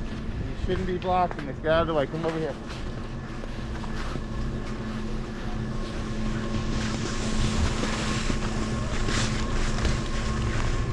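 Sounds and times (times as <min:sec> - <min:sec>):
steady mechanical hum: 0:00.0 - 0:10.9.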